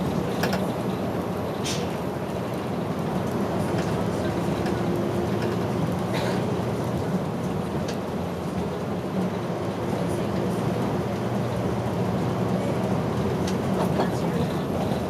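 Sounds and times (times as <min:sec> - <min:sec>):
bus engine hum: 0:00.0 - 0:15.0
road rumble: 0:00.0 - 0:15.0.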